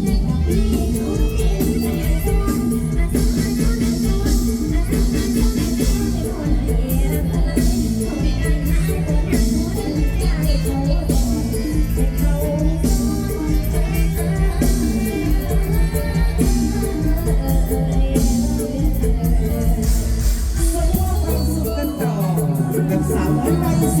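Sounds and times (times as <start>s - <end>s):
singing over a heavy bass beat: 0.0s - 24.0s.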